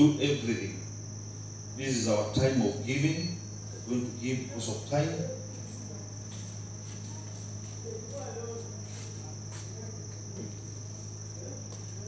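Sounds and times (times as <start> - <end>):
crickets chirping: 0.0 - 12.0
low electrical hum: 0.0 - 12.0
faint scattered noises: 0.4 - 12.0.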